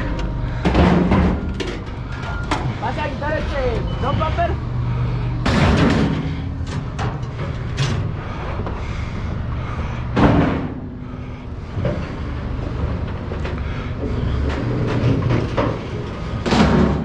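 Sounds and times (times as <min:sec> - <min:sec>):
vehicle engine idling: 0:00.0 - 0:16.5.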